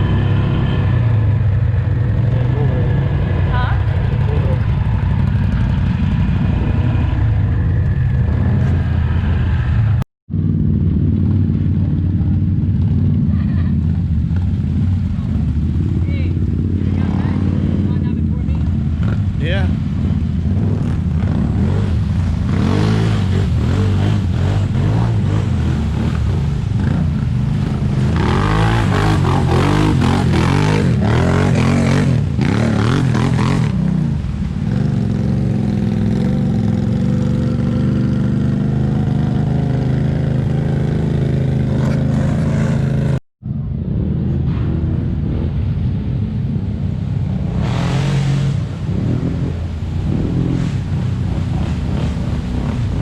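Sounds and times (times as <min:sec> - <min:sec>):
atv engine revving: 0:00.0 - 0:43.2, 0:47.2 - 0:53.0.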